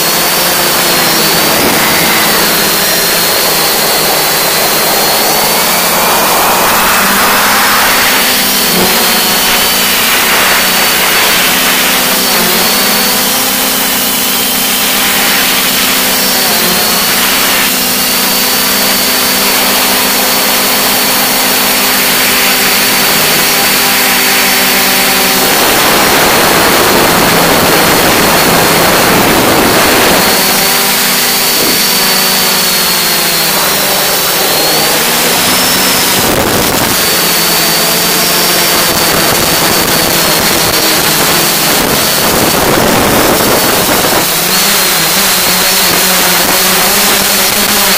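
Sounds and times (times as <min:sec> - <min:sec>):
faint high whine: 0:00.0 - 0:46.6
drone propellers droning: 0:00.0 - 0:47.9
rush of air noise: 0:00.7 - 0:20.1, 0:20.9 - 0:30.8, 0:33.5 - 0:46.0.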